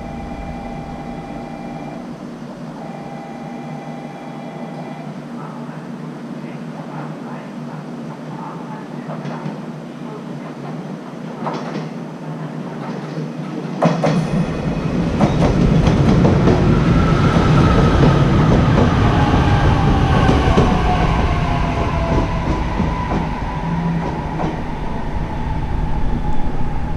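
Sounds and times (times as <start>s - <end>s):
train rumbling: 0.0s - 26.9s.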